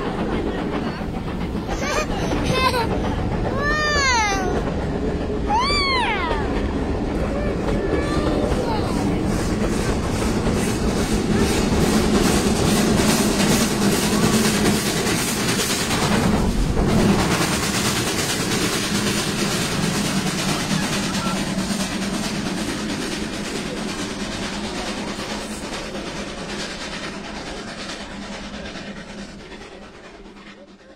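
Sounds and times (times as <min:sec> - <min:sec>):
steam train running past: 0:00.0 - 0:30.9.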